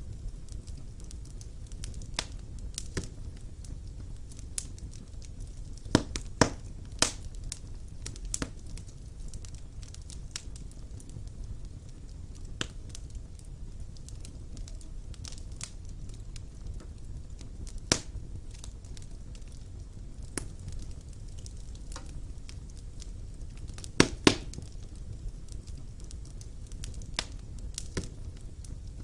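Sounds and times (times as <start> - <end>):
fire crackling and popping: 0.0 - 29.0.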